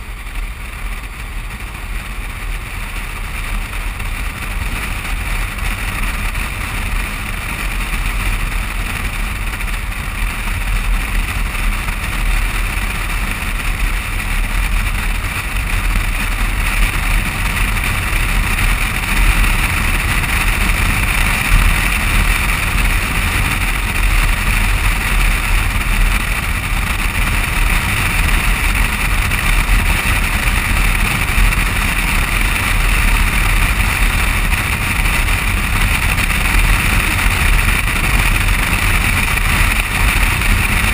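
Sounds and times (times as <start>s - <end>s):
tyres on asphalt: 0.0s - 40.9s
wind rush: 0.0s - 40.9s.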